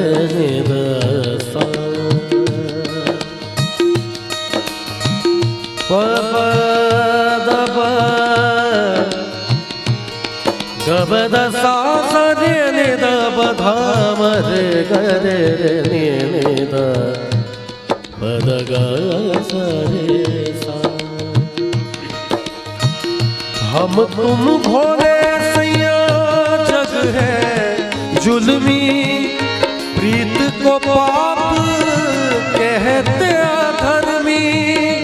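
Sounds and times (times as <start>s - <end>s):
harmonium: 0.0s - 35.0s
man singing with ornamented runs: 0.0s - 35.0s
tabla: 0.0s - 35.0s.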